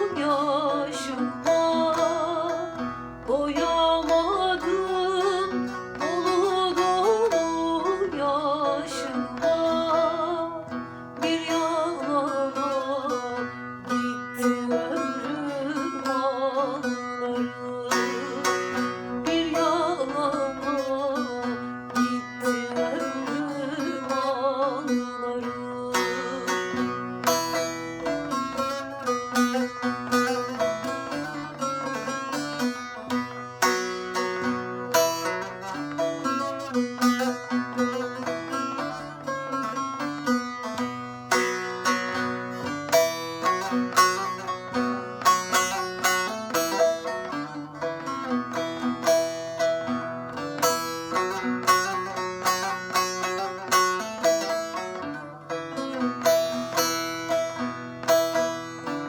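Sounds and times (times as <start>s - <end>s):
folk music on plucked strings: 0.0s - 59.0s.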